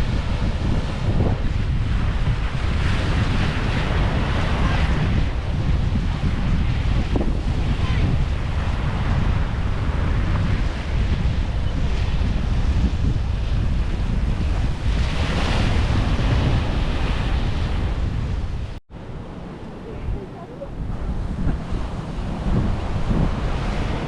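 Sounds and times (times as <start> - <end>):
ocean surf on a beach: 0.0 - 24.0
wind buffeting microphone: 0.0 - 24.0.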